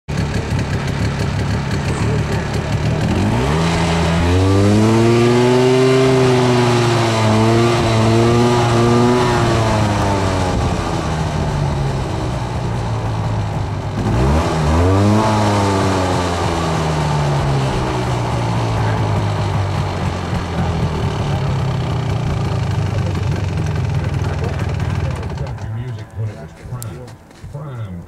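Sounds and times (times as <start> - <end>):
snowmobile engine revving: 0.1 - 28.0.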